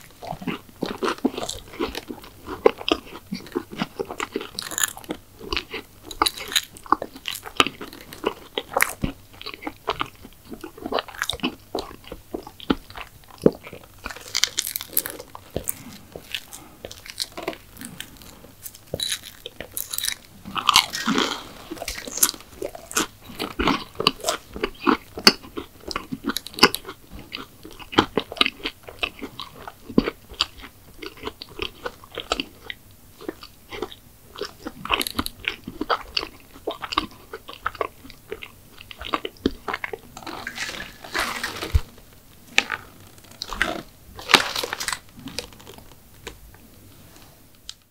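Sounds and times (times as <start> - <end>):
crunchy chewing: 0.0 - 46.4.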